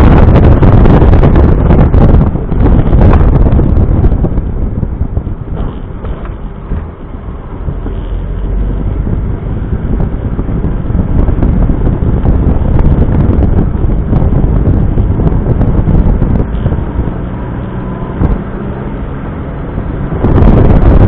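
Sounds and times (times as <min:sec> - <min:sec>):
car road noise: 0:00.0 - 0:21.0
wind buffeting microphone: 0:00.0 - 0:21.0.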